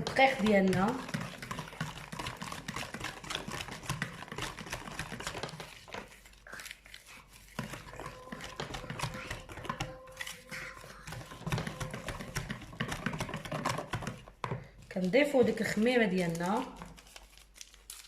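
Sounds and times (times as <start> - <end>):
utensil tapping mixing bowl: 0.0 - 6.2, 7.5 - 16.9.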